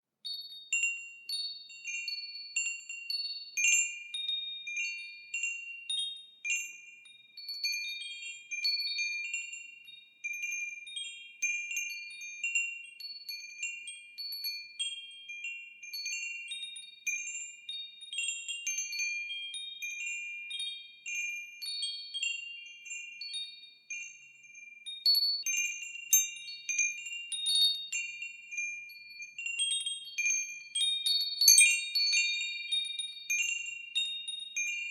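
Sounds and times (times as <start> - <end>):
wind chimes ringing: 0.2 - 34.9.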